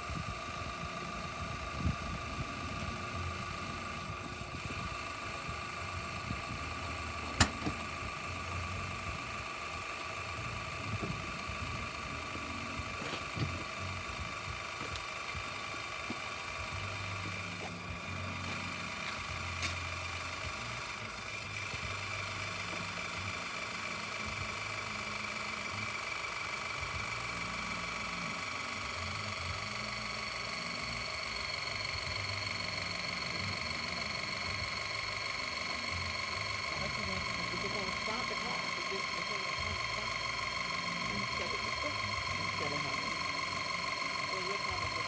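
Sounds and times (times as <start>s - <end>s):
machine running with high whine: 0.0s - 45.0s.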